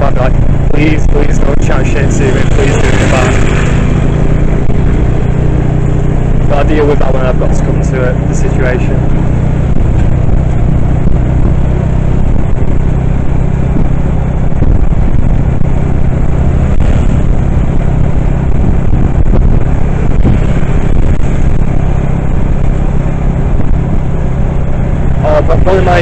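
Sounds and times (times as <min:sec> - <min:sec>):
road rumble: 0:00.0 - 0:26.0
vehicle engine hum: 0:00.0 - 0:26.0.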